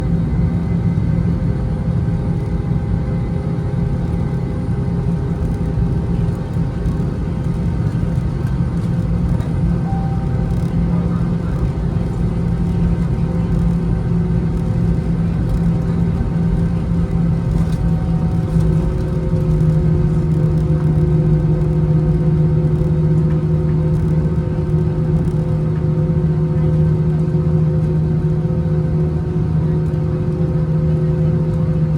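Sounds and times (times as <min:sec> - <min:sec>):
jet engines rumbling in cabin: 0:00.0 - 0:31.9.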